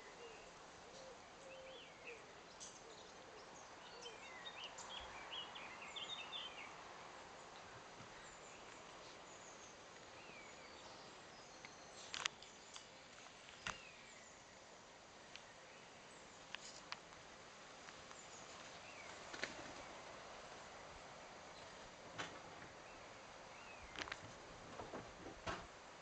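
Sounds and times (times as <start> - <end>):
faint outdoor hiss: 0.0 - 26.0.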